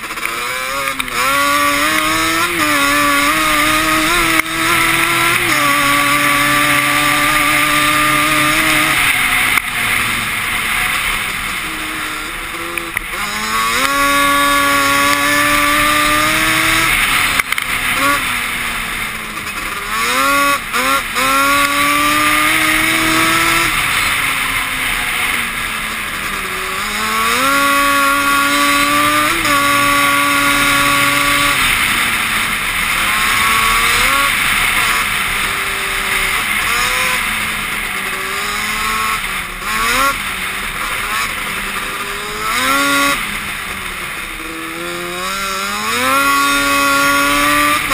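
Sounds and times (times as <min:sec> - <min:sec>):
quad engine revving: 0:00.0 - 0:47.9.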